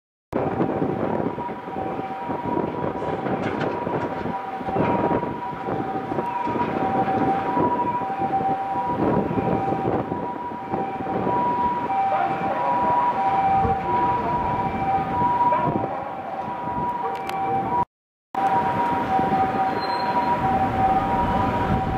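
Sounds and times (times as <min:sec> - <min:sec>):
two-tone electronic warning alarm: 0:00.3 - 0:21.9
street traffic rumble: 0:00.4 - 0:17.8, 0:18.4 - 0:21.9.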